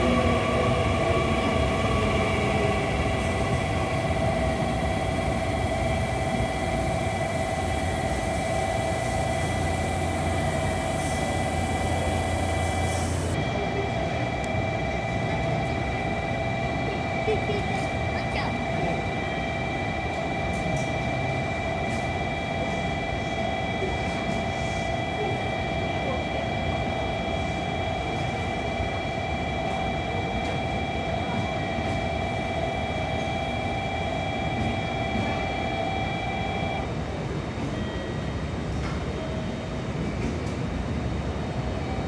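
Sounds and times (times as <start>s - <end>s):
electric train humming and whining: 0.0s - 42.0s
train pulling in: 0.0s - 42.0s.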